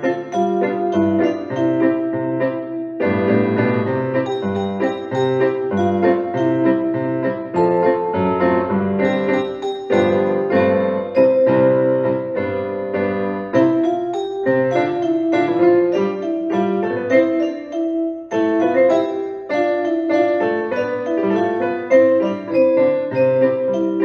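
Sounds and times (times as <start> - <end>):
piano melody over chords: 0.0 - 24.0.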